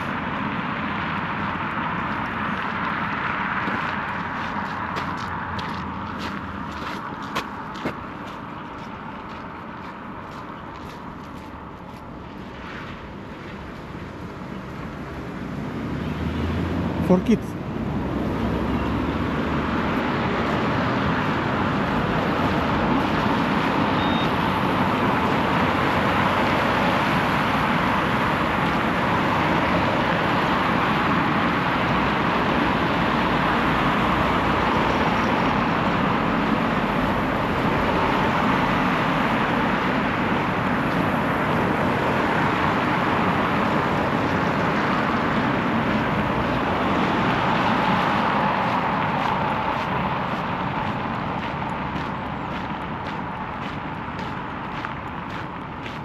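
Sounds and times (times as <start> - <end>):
road traffic roar: 0.0 - 56.0.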